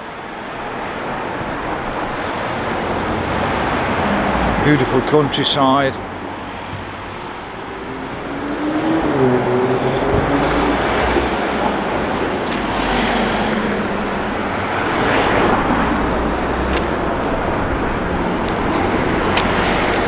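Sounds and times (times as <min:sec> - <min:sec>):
cars driving past: 0:00.1 - 0:20.0.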